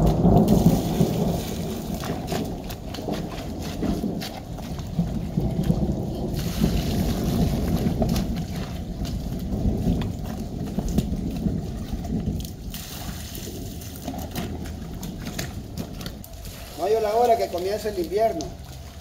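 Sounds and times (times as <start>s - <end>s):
downspout running into barrel: 0.0s - 19.0s
water sloshing and splashing: 0.0s - 19.0s.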